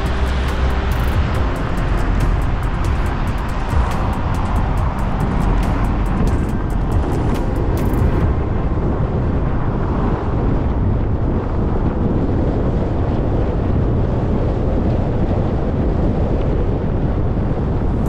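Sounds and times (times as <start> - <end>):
car tyre and wind rumble: 0.0 - 18.0.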